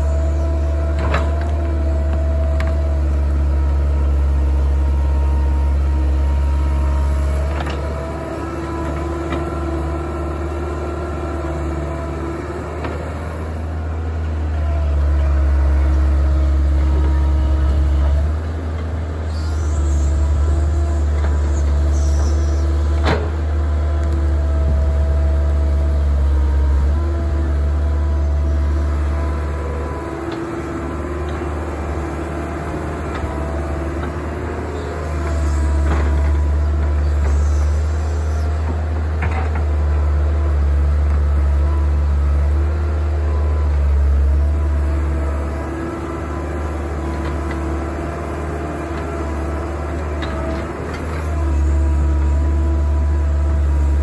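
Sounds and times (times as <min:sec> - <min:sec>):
excavator diesel engine under load: 0:00.0 - 0:54.0.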